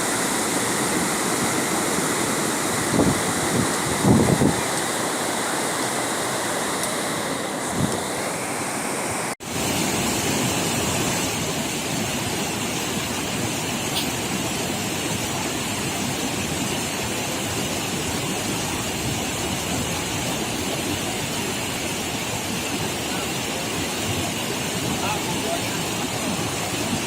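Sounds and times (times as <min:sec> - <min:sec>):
flowing river water: 0:00.0 - 0:27.0.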